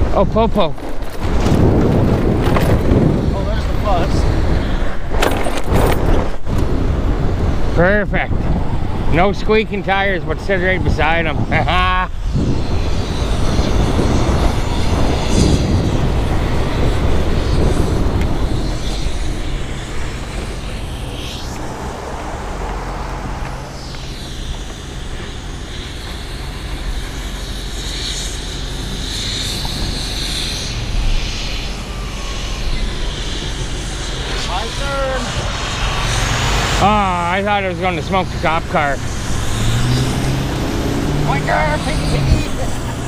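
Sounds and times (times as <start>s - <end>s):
vehicles passing close by: 0.0s - 43.0s.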